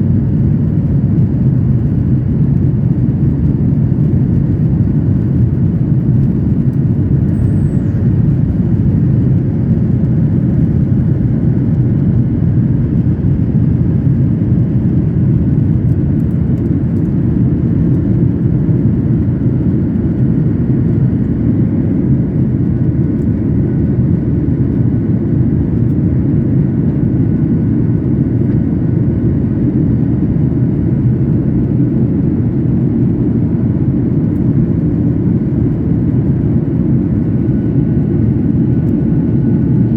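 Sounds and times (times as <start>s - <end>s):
jet airliner cabin rumble: 0.0s - 39.9s.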